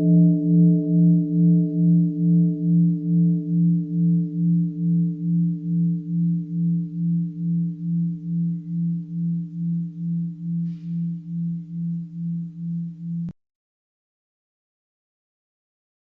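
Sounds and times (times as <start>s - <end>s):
bowl bell ringing: 0.0s - 13.3s.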